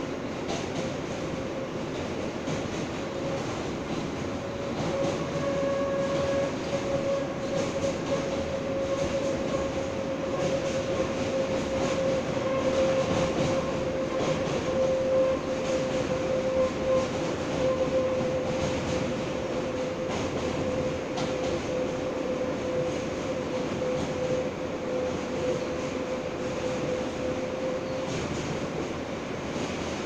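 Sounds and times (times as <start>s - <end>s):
subway wheels rumbling on rail: 0.0s - 30.0s.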